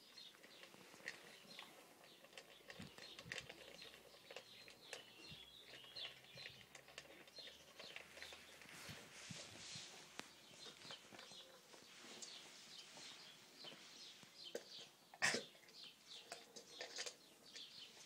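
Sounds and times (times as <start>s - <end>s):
dogs crunching dry kibble: 0.0s - 14.9s, 15.7s - 18.0s.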